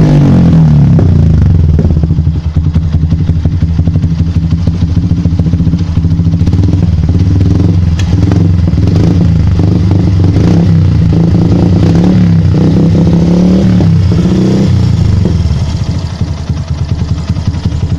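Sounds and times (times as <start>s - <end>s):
exhaust popping: 0.0s - 16.0s
motorcycle engine revving: 0.0s - 17.9s.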